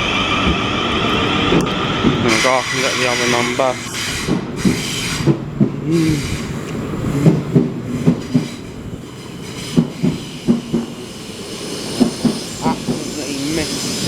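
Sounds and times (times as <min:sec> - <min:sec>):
low train rumble: 0:00.0 - 0:14.0
train wheels clacking over rail joints: 0:01.5 - 0:14.0.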